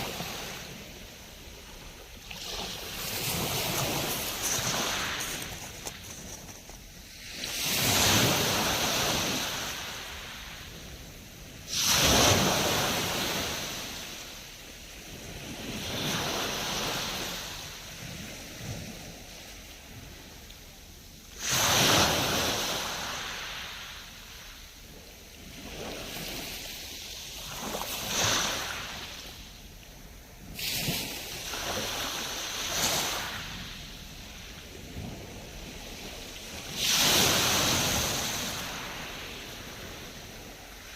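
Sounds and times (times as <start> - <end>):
sea waves breaking on shore: 0.0 - 20.4, 21.3 - 29.5, 30.2 - 40.9.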